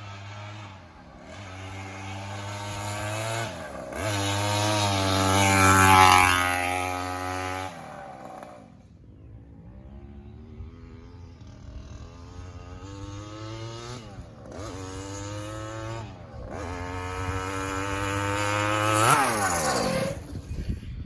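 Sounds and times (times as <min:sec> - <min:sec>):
two-stroke engine revving: 0:00.0 - 0:08.9, 0:09.6 - 0:20.5.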